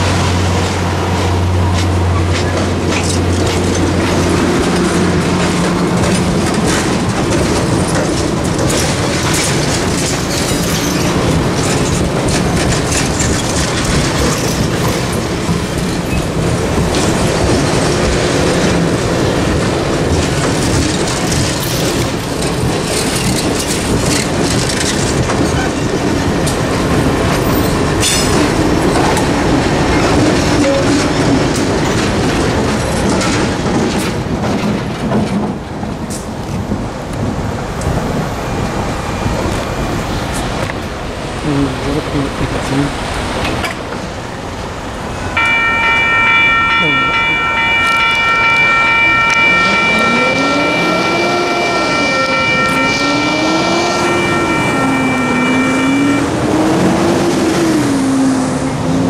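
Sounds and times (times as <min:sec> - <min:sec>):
diesel locomotive engine hum: 0:00.0 - 0:59.0
train wheels clicking and rumbling: 0:00.0 - 0:59.0.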